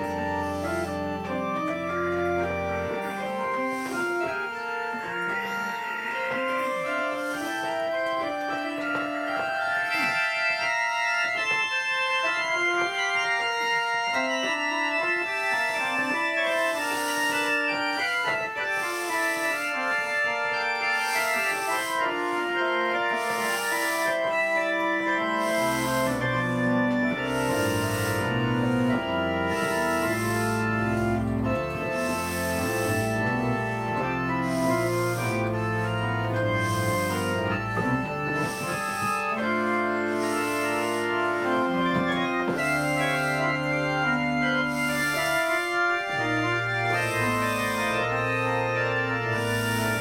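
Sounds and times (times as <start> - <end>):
deep organ pedal bass: 0.0 - 50.0
organ playing fast passage: 0.0 - 50.0.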